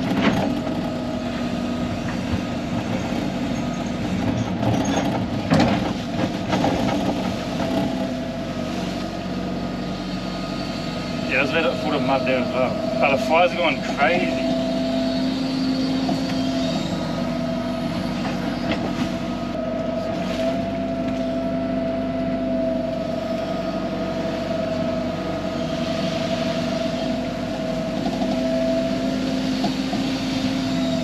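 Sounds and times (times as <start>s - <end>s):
excavator engine droning: 0.0s - 31.0s.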